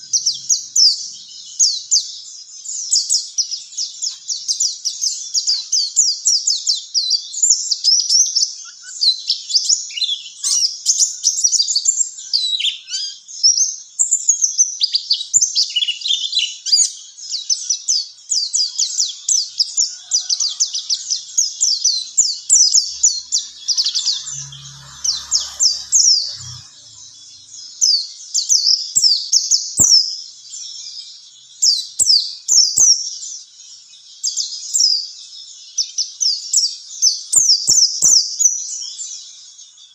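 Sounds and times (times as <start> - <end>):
bird singing high thin chirps: 0.0 - 33.3.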